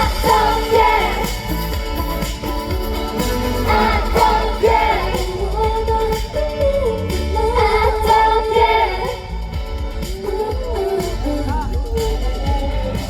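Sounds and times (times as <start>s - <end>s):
female vocals singing: 0.0s - 2.4s, 3.6s - 13.0s
heavy bass beat: 0.0s - 13.0s.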